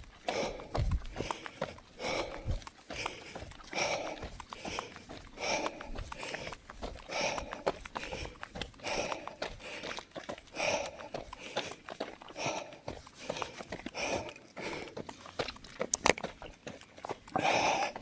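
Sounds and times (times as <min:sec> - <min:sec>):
footsteps scuffing on trail: 0:00.0 - 0:18.0
runner breathing hard: 0:00.0 - 0:18.0.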